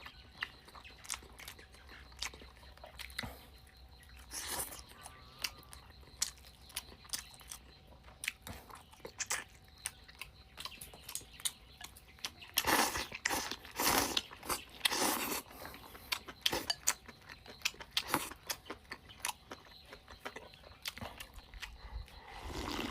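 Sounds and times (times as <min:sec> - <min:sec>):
person chewing food wetly: 0:00.0 - 0:22.9.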